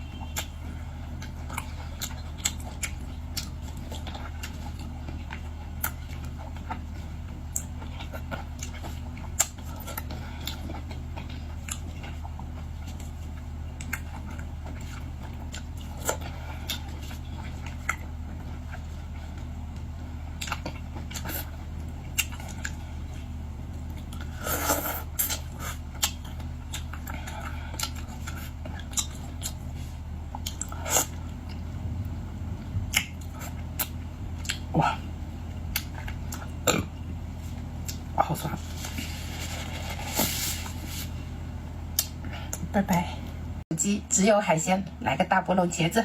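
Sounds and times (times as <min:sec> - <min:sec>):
chewing and crunching shellfish: 0:00.0 - 0:42.8
steady low hum: 0:00.0 - 0:46.0.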